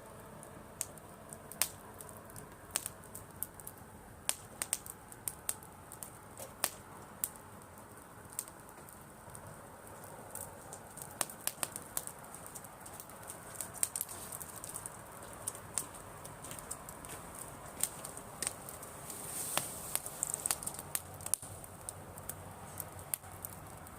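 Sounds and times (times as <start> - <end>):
flames rushing: 0.0 - 23.9
campfire pops and snaps: 0.2 - 23.9.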